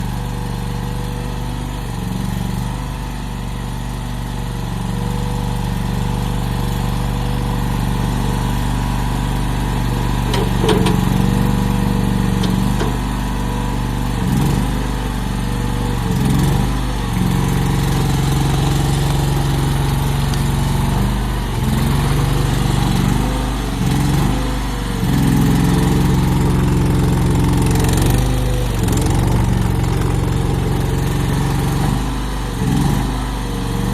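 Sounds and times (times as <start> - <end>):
mini skid steer engine running: 0.0 - 33.9.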